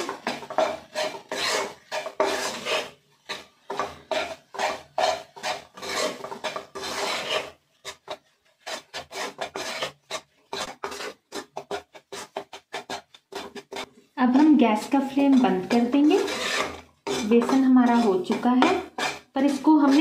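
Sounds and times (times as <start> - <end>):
metal spoon scraping a pan: 0.0 - 20.0.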